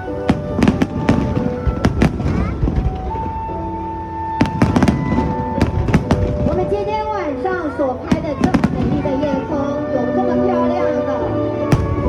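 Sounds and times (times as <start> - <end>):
fireworks bursting: 0.0 - 10.0, 11.4 - 12.0
music with long held notes: 0.0 - 12.0.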